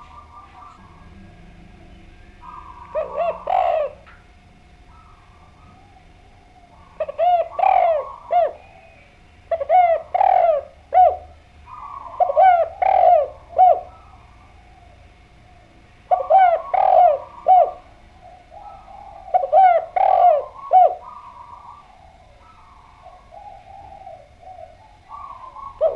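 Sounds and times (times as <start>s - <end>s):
dove cooing: 0.0s - 25.9s.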